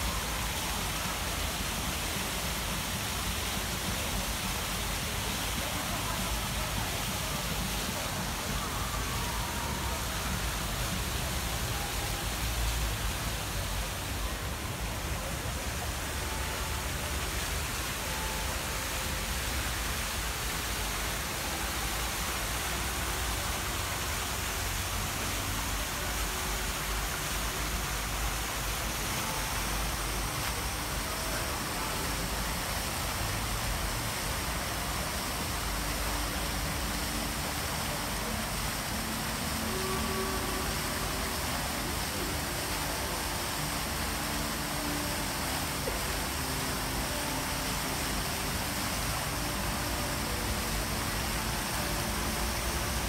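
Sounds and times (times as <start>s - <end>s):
hissing city ambience: 0.0s - 53.0s.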